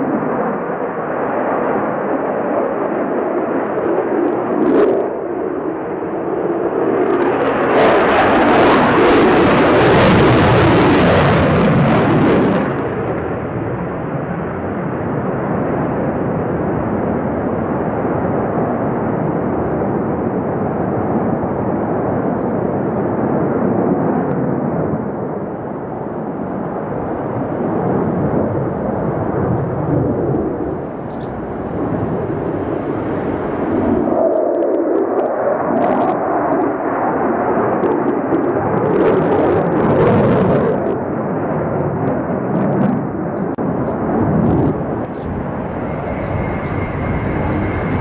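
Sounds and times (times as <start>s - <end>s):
fighter jet engine roar: 0.0s - 48.0s.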